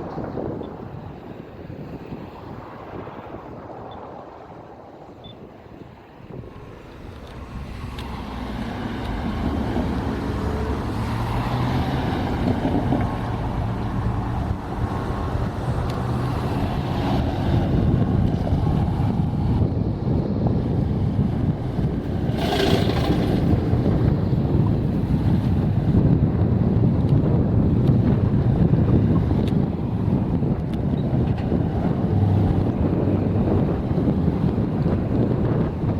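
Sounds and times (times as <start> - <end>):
wind on microphone: 0.0 - 35.9
diesel locomotive engine: 5.9 - 35.9.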